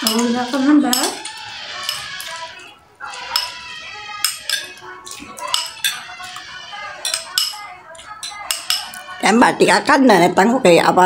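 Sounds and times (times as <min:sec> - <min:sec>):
spoons clinking on glass bowl: 0:00.0 - 0:09.4.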